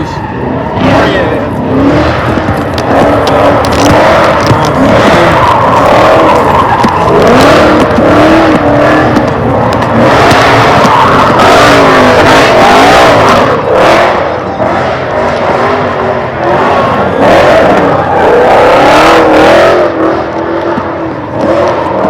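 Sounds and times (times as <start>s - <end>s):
car engine running: 0.0s - 22.0s
car tyres squealing: 0.0s - 22.0s.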